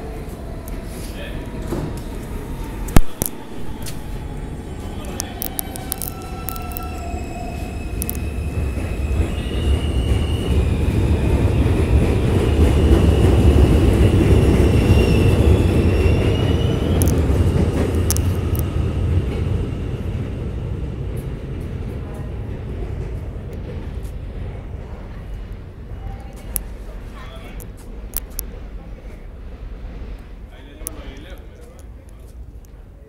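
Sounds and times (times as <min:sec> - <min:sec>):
subway traction motors whining: 0:00.0 - 0:31.7
wheel and rail rumble: 0:00.0 - 0:33.0.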